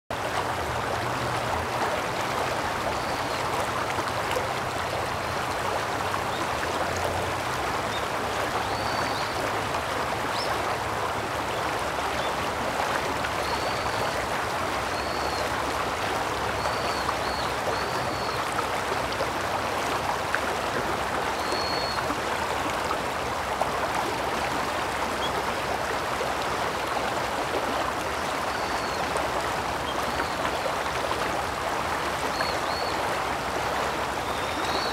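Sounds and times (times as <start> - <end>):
river babbling over stones: 0.1 - 34.9.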